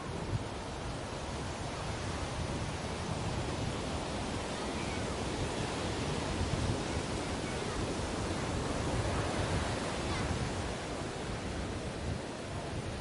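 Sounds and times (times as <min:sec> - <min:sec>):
ocean waves washing onto beach: 0:00.0 - 0:13.0.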